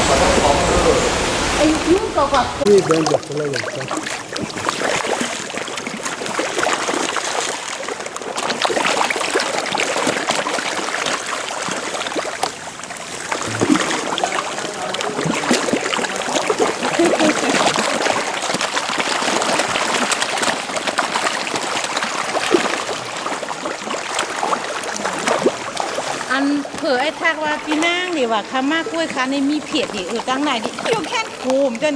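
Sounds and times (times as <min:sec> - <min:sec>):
water splashing against boat: 0:00.0 - 0:31.9.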